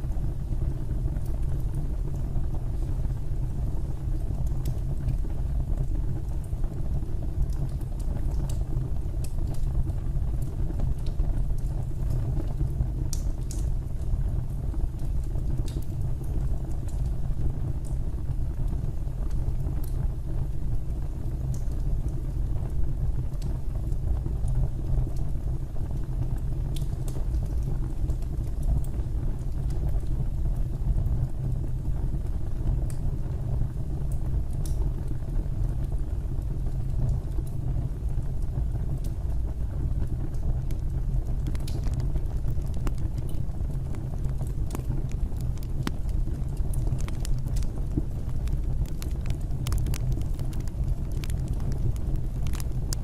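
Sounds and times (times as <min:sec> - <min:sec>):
fire crackles and pops: 0:00.0 - 0:53.0
low rumble of flames: 0:00.0 - 0:53.0.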